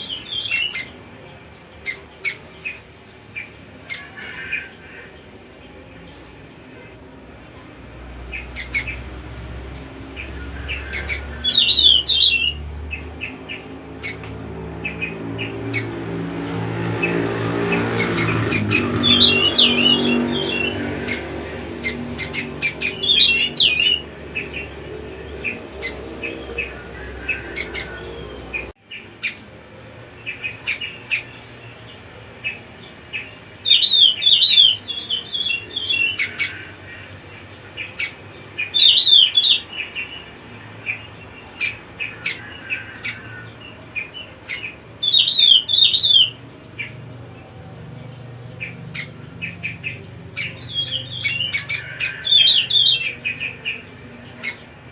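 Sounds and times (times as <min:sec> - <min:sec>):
songbird high chirps: 0:00.0 - 0:28.7, 0:30.3 - 0:54.9.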